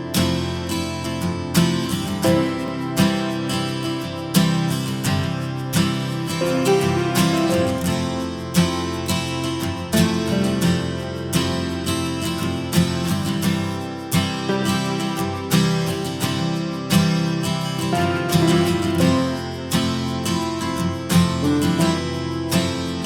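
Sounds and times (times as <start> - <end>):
strummed acoustic guitar: 0.0 - 23.0.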